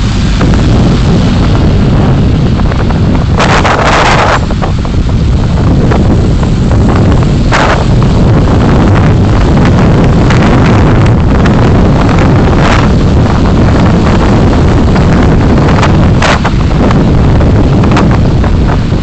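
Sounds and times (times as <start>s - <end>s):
car rumbling while driving: 0.0s - 19.0s.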